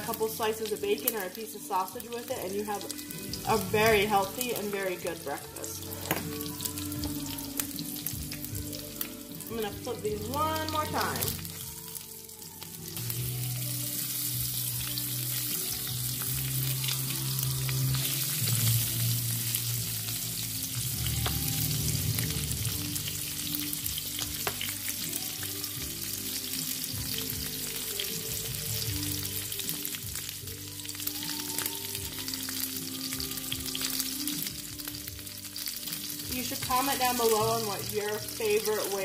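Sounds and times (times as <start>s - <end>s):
eggs sizzling in oil: 0.0s - 39.0s.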